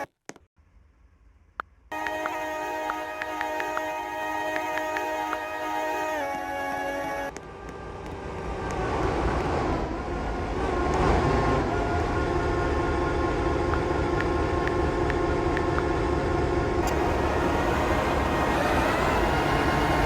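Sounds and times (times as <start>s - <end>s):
diesel locomotive engine hum: 1.9s - 20.0s
freight train rumbling by: 1.9s - 20.0s.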